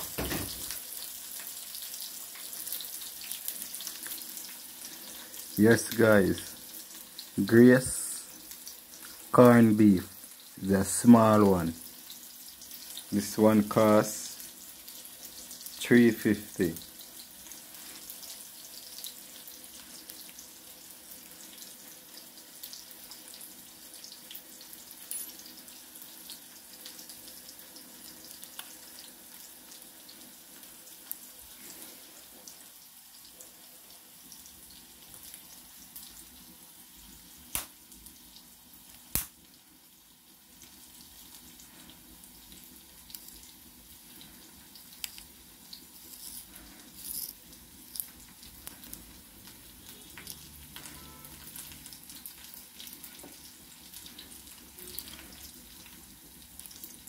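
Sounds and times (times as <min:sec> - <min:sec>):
onion sizzling in oil: 0:00.0 - 0:57.0.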